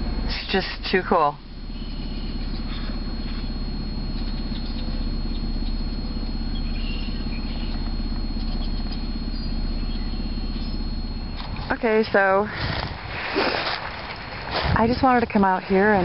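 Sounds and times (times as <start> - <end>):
car engine idling: 0.0 - 16.0
thin high whine: 0.0 - 16.0.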